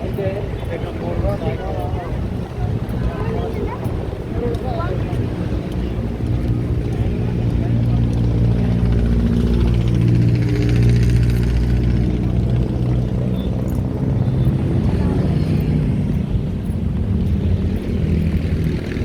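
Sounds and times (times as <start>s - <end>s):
large engine rumbling: 0.0s - 19.0s.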